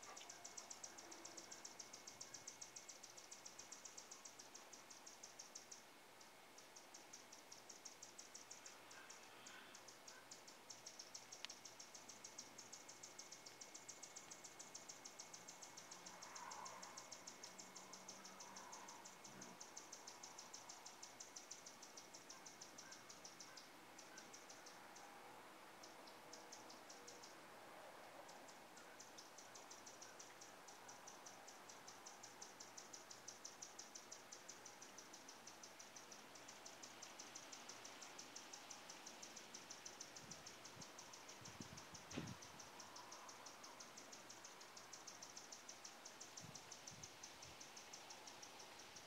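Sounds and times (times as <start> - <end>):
high-pitched insect chirping: 0.0 - 27.4, 28.1 - 49.0.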